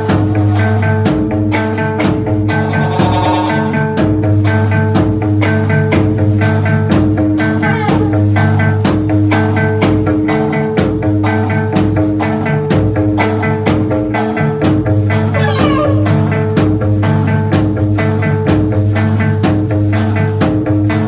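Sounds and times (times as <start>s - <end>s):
drum kit steady beat: 0.0s - 21.0s
electric guitar: 0.0s - 21.0s.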